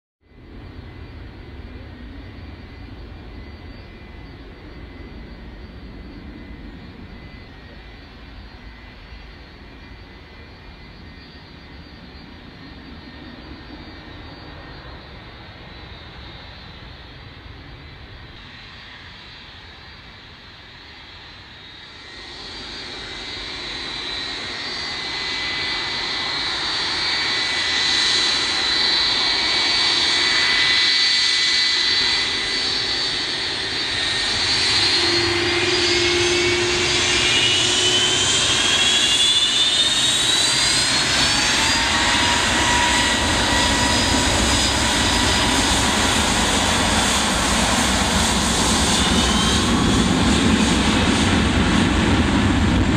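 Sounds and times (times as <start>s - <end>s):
jet engine whine rising: 0.3s - 52.9s
jet engines roaring: 0.3s - 52.9s.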